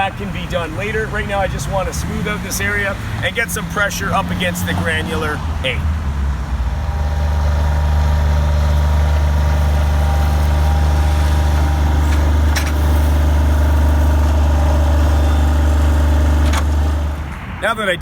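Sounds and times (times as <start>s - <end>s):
machine engine running: 2.8s - 17.6s.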